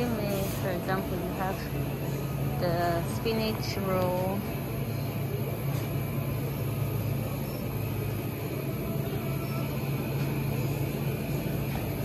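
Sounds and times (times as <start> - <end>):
shop interior hum: 0.0 - 12.0.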